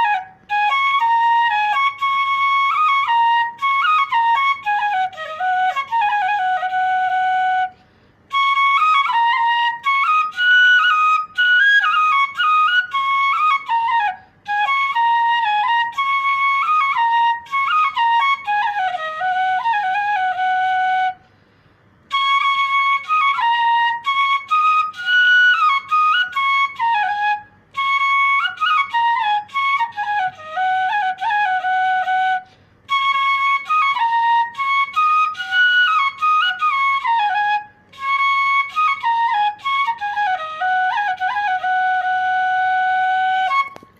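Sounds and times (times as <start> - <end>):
bamboo flute melody: 0.0 - 21.3, 22.1 - 43.9.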